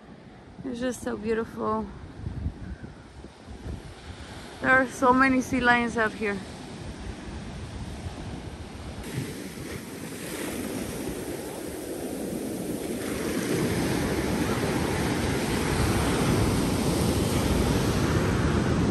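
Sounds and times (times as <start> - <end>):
wind rumbling on microphone: 0.0 - 18.9
waves breaking on sand: 3.1 - 18.9.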